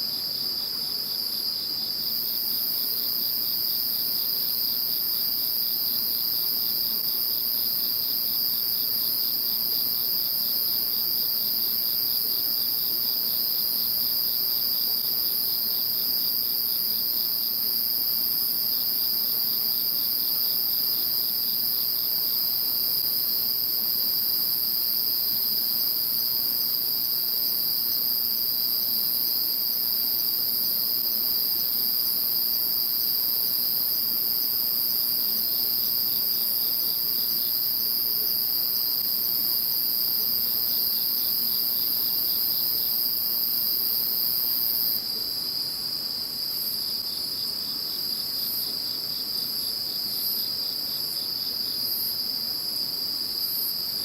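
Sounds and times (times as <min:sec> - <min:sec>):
rapid insect chirps: 0:00.0 - 0:45.2.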